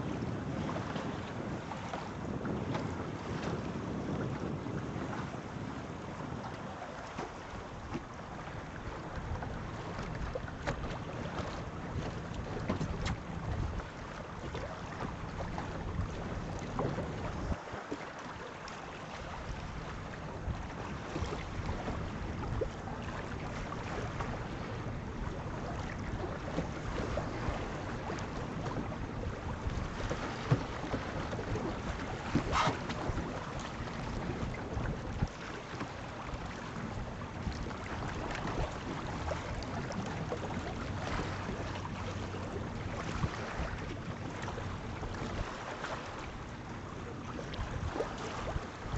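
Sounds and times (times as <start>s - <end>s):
wind buffeting microphone: 0.0s - 17.6s, 19.0s - 46.5s
water rushing along hull: 0.0s - 48.9s.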